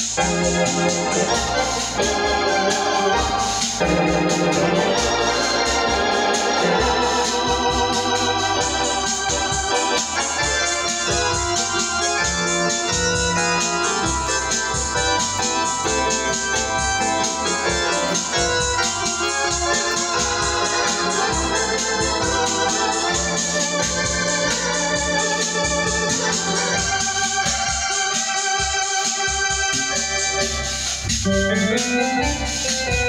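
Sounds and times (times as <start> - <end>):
organ playing chords and melody: 0.0 - 33.0.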